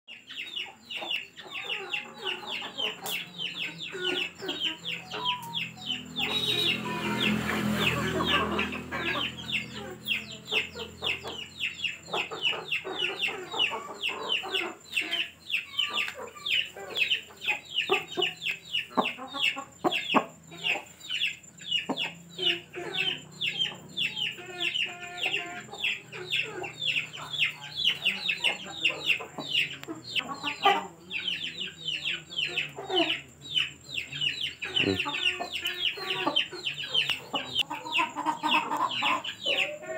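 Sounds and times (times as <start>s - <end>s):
chickens clucking: 0.1s - 39.9s
chicks peeping: 0.1s - 39.9s.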